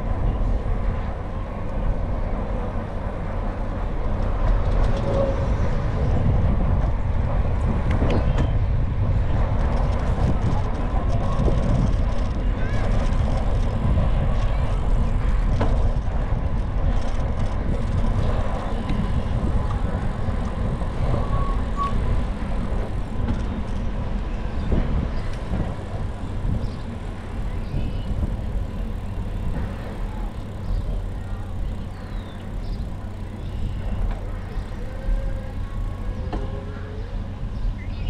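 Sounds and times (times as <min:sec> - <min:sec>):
bicycle tyres rolling on path: 0:00.0 - 0:38.0
wind buffeting microphone: 0:00.0 - 0:38.0.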